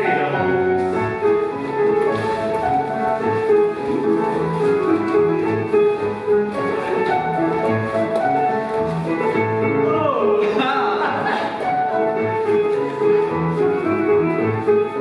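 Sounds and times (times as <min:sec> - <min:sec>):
reel dance music: 0:00.0 - 0:15.0.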